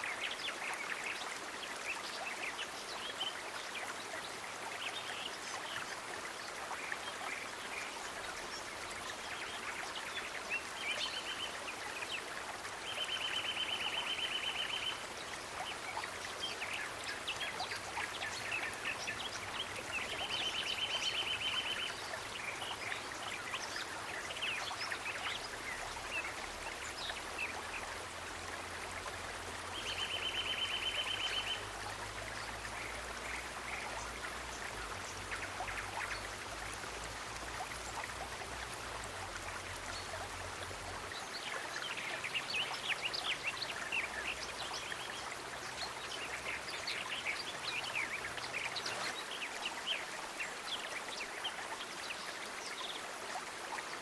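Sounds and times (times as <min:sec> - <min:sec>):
steady water noise: 0:00.0 - 0:54.0.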